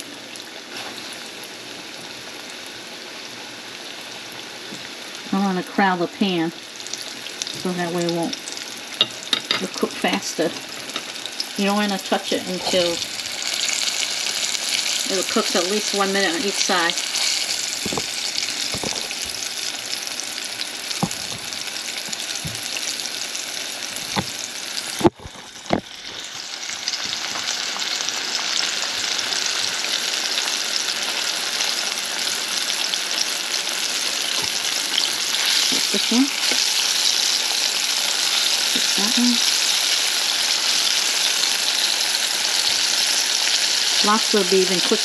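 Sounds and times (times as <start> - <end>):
food sizzling in hot oil: 0.0 - 45.0.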